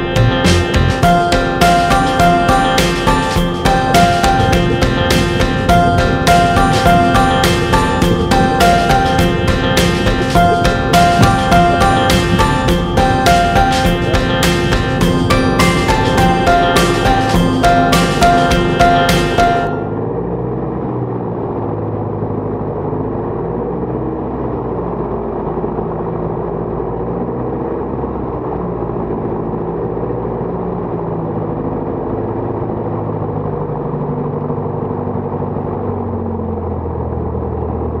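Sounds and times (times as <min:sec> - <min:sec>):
light aircraft engine and propeller: 0:00.0 - 0:38.0.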